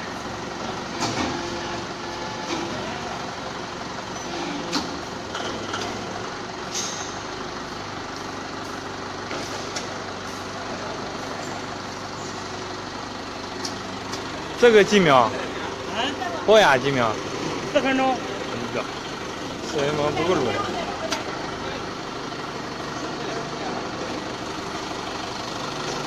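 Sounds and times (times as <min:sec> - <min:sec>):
forklift engine running: 0:00.0 - 0:26.0
hydraulic pump unit: 0:00.0 - 0:26.0.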